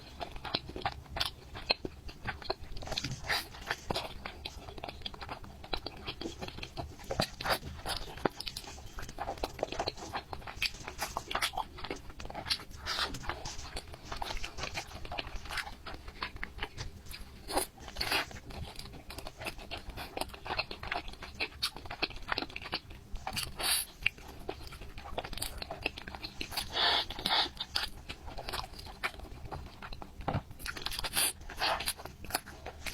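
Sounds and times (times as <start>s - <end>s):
person biting and chewing crunchy food: 0.1s - 32.9s.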